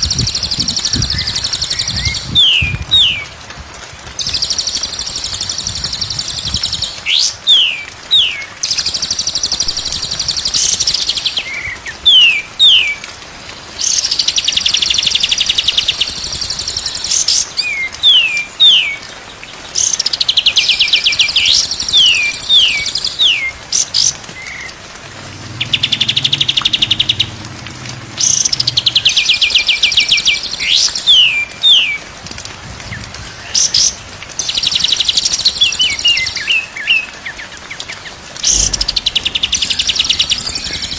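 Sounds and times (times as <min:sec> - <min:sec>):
bird song with trills and whistles: 0:00.0 - 0:03.3, 0:04.2 - 0:13.0, 0:13.8 - 0:19.0, 0:19.8 - 0:24.7, 0:25.5 - 0:27.4, 0:28.2 - 0:32.0, 0:32.9 - 0:37.8, 0:38.4 - 0:40.9.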